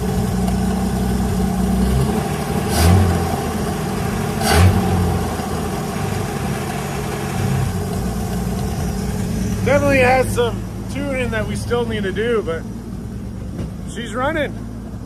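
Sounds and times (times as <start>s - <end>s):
car engine idling: 0.0s - 15.0s
engine throttle blips: 0.0s - 15.0s.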